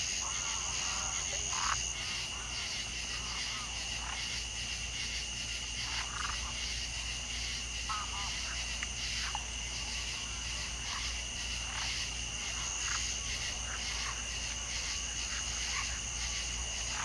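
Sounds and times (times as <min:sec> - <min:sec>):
frog calls: 0:00.0 - 0:04.8, 0:05.7 - 0:17.0
insects trilling: 0:00.0 - 0:17.0.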